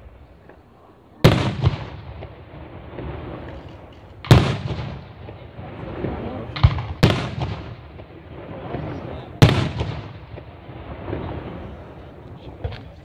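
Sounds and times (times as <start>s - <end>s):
faint fireworks crackling: 0.0s - 13.0s
fireworks bangs: 0.0s - 13.0s.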